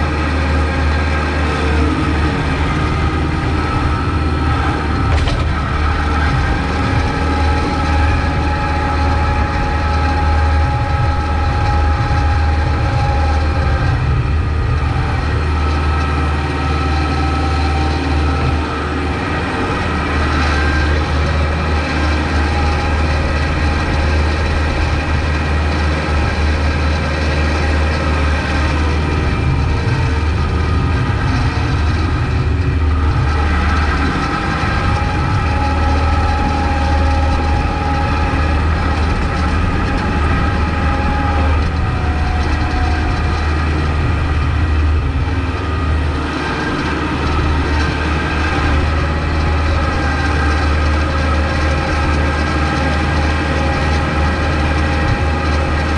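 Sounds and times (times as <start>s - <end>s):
tractor diesel engine humming: 0.0s - 55.9s.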